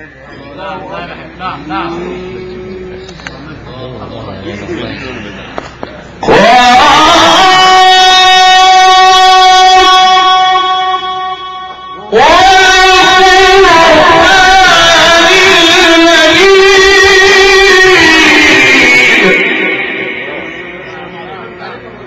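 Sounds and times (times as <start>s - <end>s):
man chanting through a microphone: 0.0s - 22.0s.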